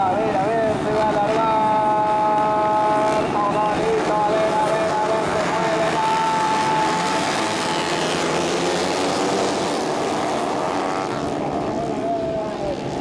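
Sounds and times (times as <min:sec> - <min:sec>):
motorcycles accelerating: 0:00.0 - 0:13.0.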